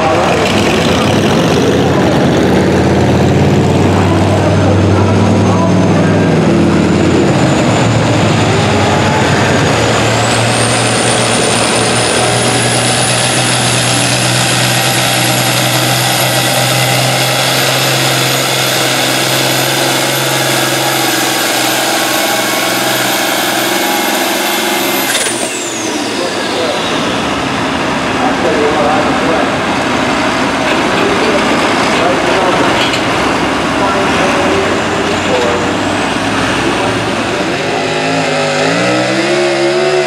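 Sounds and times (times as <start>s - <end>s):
tractor engine under full load: 0.0s - 40.0s.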